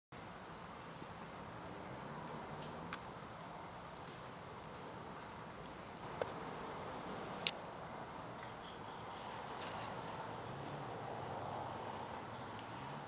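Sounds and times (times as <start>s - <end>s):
faint outdoor hiss: 0.1s - 13.0s.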